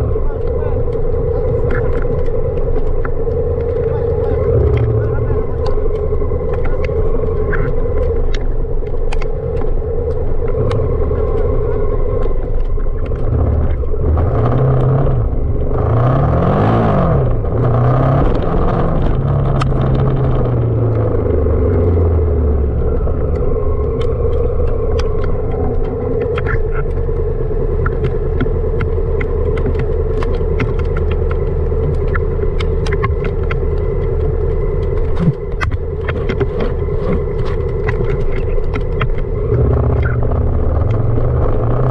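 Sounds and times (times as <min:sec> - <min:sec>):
motorcycle engine revving: 0:00.0 - 0:41.9
sharp clicks: 0:00.0 - 0:41.9.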